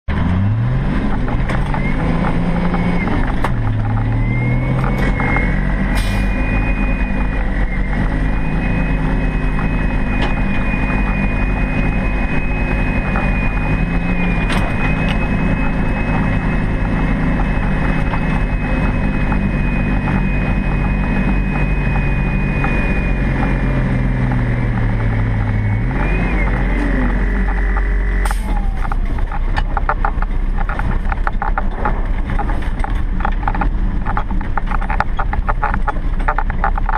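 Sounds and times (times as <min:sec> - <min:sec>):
diesel engine pulling hard: 0:00.1 - 0:36.9
steady high whine: 0:01.0 - 0:36.9.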